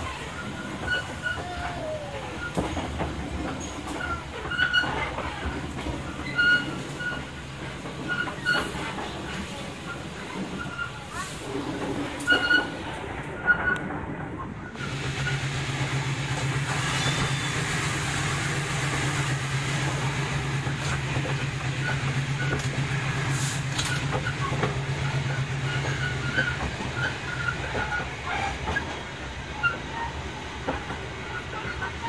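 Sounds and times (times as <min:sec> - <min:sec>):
train running low hum: 0:00.0 - 0:32.0.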